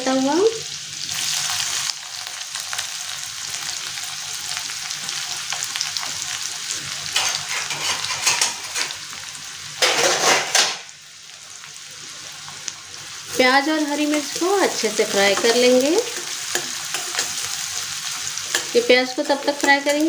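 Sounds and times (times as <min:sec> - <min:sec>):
onion frying in oil: 0:00.0 - 0:20.0.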